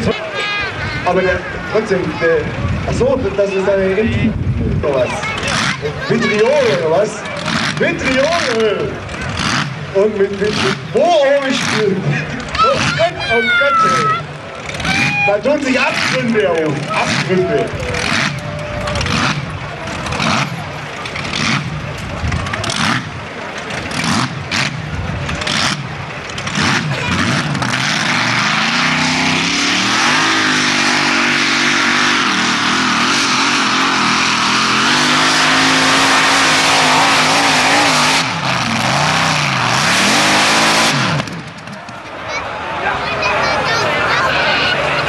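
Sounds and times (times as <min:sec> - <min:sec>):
tractor engine revving: 0:00.0 - 0:45.0.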